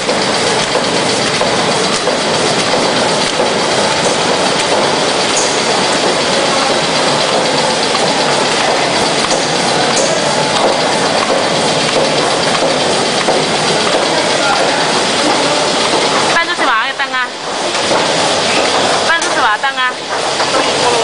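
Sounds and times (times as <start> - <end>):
die-cutting machine running: 0.0 - 21.0.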